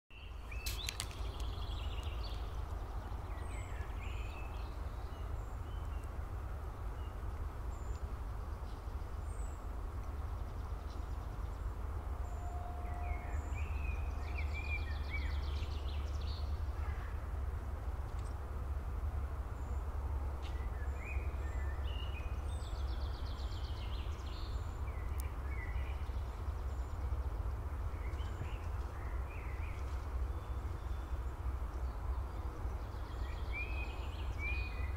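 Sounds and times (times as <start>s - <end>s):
wind rumble on microphone: 0.2s - 34.9s.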